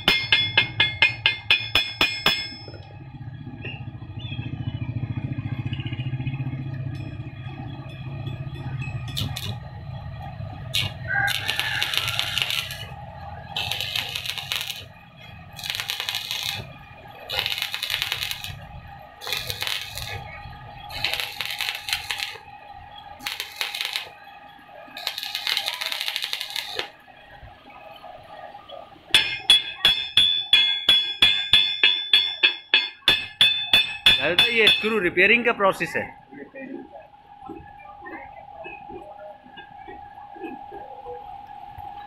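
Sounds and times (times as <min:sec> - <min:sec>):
workshop machine hum: 0:06.5 - 0:42.0.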